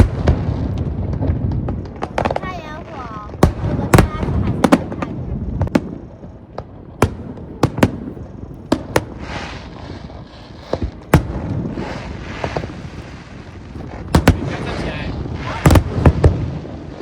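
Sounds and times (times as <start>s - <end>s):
firework shells bursting: 0.0s - 16.6s
crackling firework hiss: 0.0s - 17.0s.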